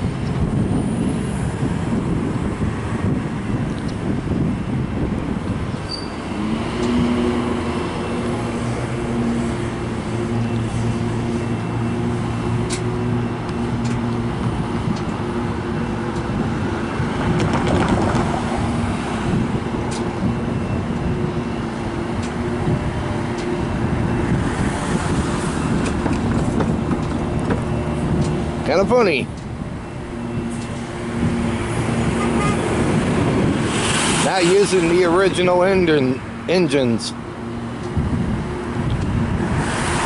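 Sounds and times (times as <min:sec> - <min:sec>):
diesel locomotive engine humming: 0:00.0 - 0:40.0
traffic noise: 0:00.0 - 0:40.0.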